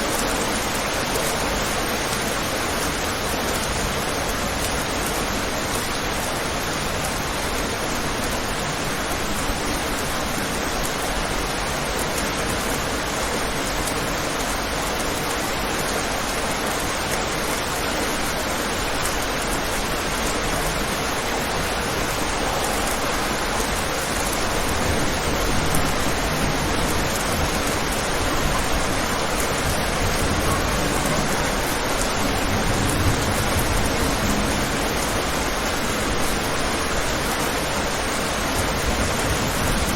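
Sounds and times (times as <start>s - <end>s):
rain falling on a window: 0.0s - 39.9s.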